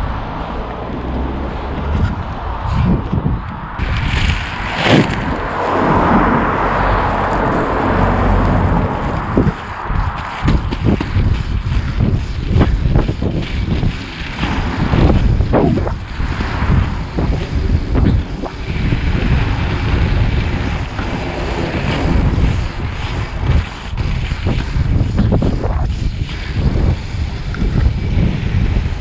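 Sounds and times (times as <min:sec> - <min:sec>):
skate wheels rolling on asphalt: 0:00.0 - 0:29.0
wind buffeting microphone: 0:00.0 - 0:29.0.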